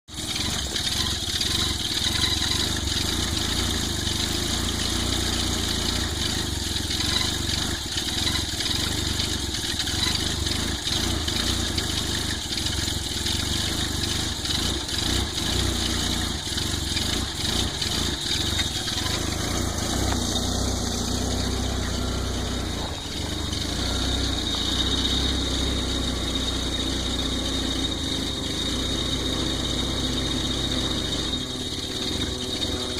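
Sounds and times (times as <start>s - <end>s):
car engine idling roughly: 0.0s - 32.9s.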